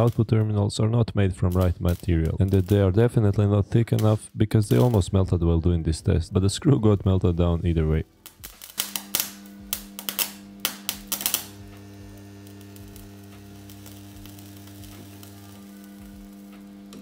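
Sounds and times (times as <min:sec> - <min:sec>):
electric sparks crackling: 0:00.0 - 0:17.0
transformers humming: 0:00.0 - 0:17.0.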